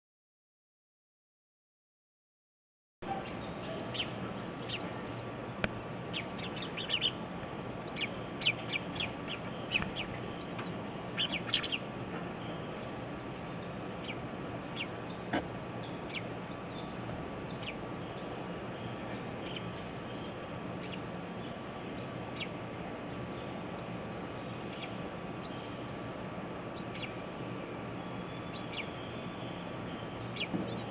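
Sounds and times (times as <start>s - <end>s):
birds chirping: 3.0s - 30.9s
steady low hum: 3.0s - 30.9s.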